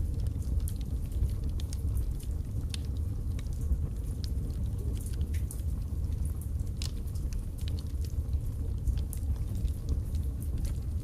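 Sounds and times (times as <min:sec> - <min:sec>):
fire crackling and snapping: 0:00.0 - 0:11.0
low rumble of flames: 0:00.0 - 0:11.0.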